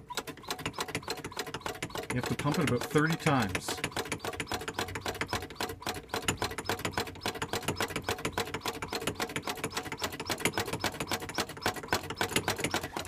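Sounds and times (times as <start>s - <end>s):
hand pump clicking: 0.0s - 13.0s.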